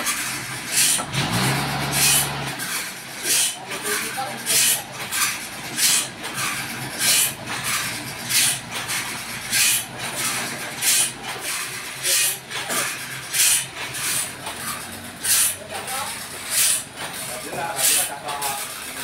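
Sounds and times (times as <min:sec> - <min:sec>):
sawmill machinery swishing: 0:00.0 - 0:19.0.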